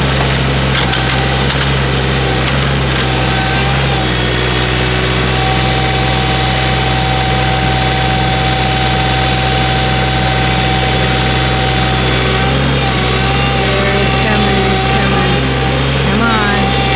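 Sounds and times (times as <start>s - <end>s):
constant high whine: 0.0s - 16.9s
excavator diesel engine running: 0.0s - 16.9s.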